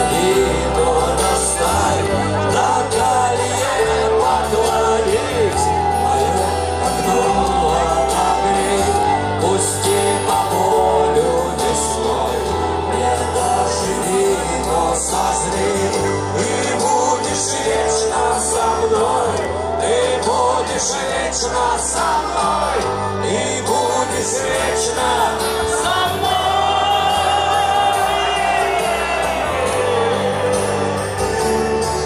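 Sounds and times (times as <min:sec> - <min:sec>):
crowd shouting: 0:00.0 - 0:32.0
live rock band with male singer: 0:00.0 - 0:32.0.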